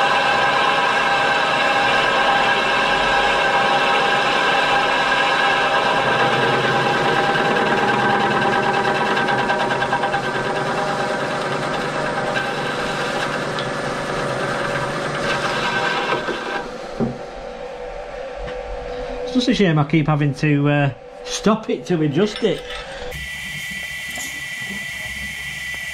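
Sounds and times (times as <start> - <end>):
milling machine whine: 0.0 - 25.9.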